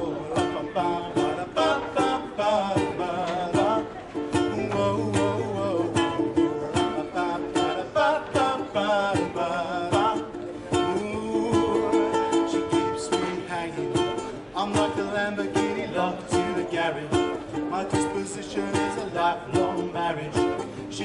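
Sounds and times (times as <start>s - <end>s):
strummed string instrument: 0.0s - 21.0s.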